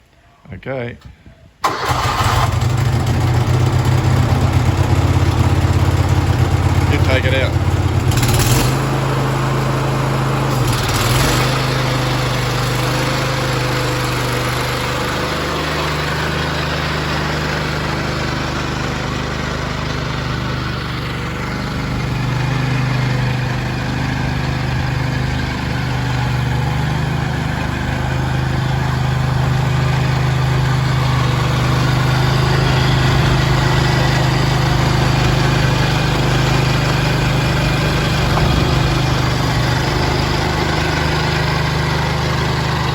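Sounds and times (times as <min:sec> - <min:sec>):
skid steer engine running: 0:01.6 - 0:42.9.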